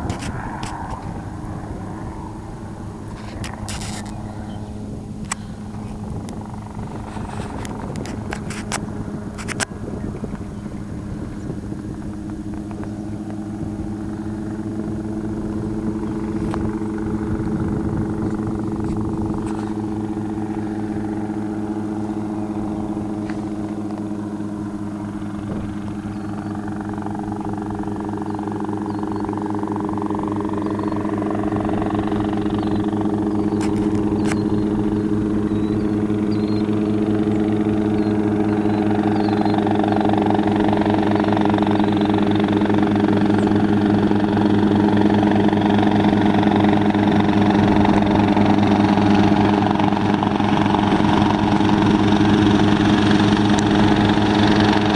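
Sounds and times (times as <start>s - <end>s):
helicopter rotor and engine: 0.0s - 54.9s.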